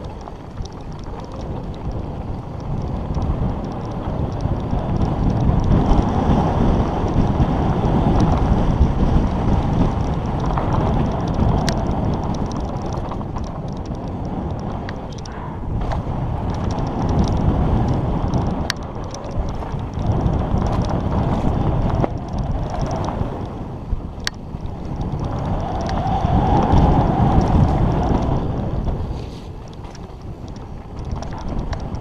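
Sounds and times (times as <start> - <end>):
bike rumbling over dirt trail: 0.0 - 32.0
sharp bike clicks: 0.0 - 32.0
wind buffeting microphone: 0.0 - 32.0.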